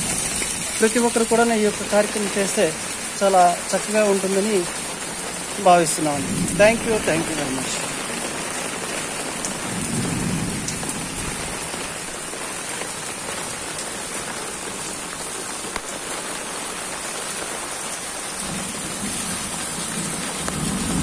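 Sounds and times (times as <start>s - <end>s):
heavy rain on stone: 0.0s - 21.0s
rainwater running in channel: 0.0s - 21.0s
water pouring from downpipe: 0.0s - 21.0s.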